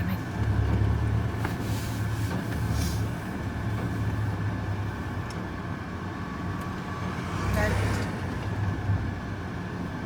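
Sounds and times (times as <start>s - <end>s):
road noise: 0.0s - 10.0s
vehicle engine drone from inside: 0.0s - 10.0s.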